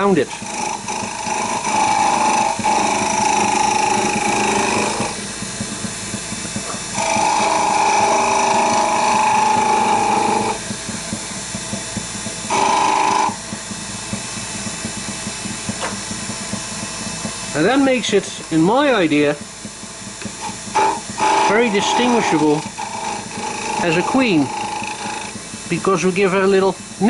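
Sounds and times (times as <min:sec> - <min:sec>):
turning tool cutting wood: 0:00.0 - 0:27.0
wood lathe running: 0:00.0 - 0:27.0.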